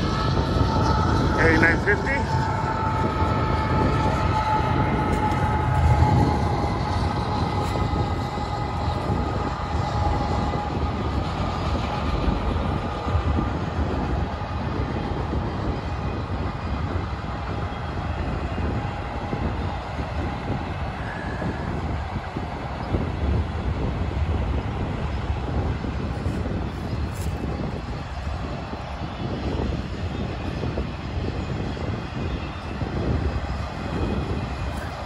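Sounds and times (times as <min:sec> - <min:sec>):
diesel locomotive engine passing: 0:00.0 - 0:35.0
steady whine: 0:00.0 - 0:35.0
train cars rumbling on rails: 0:00.0 - 0:35.0.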